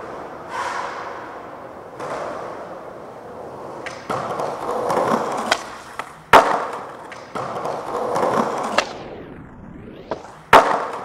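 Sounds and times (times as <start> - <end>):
skateboard wheels rolling on concrete: 0.0 - 11.0
skateboard cracking: 1.9 - 11.0.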